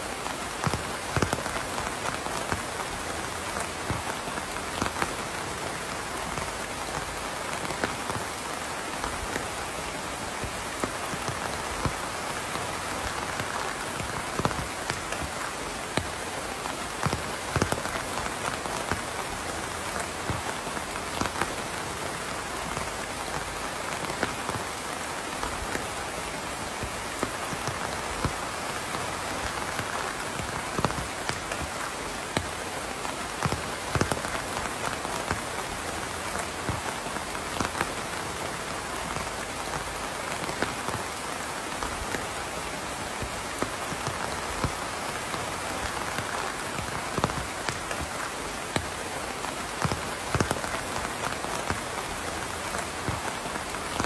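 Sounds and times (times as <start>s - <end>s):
raindrops tapping: 0.0s - 54.0s
steady rain: 0.0s - 54.0s.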